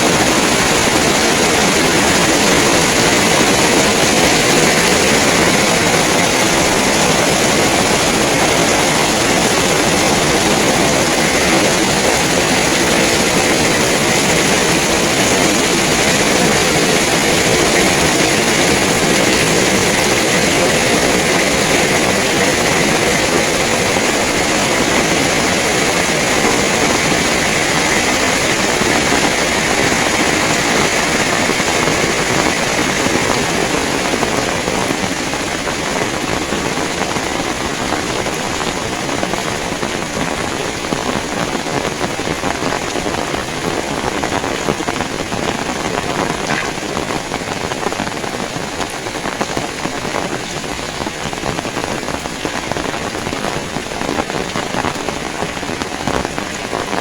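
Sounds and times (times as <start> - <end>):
heavy rain pouring: 0.0 - 57.0
strong wind: 0.0 - 57.0.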